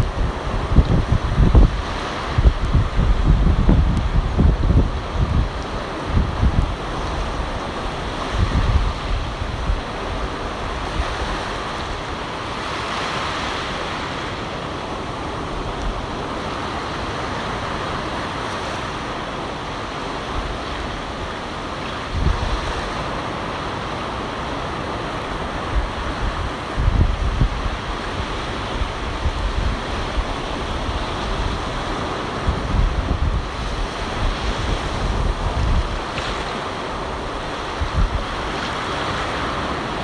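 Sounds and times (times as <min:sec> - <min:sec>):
wind buffeting microphone: 0:00.0 - 0:14.2, 0:20.0 - 0:23.6, 0:24.7 - 0:40.0
ocean surf washing onto beach: 0:00.0 - 0:40.0.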